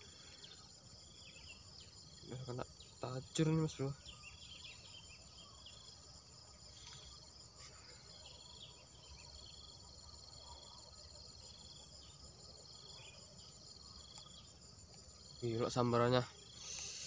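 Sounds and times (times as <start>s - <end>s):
insect chirps: 0.0s - 17.0s
insects trilling: 0.0s - 17.0s.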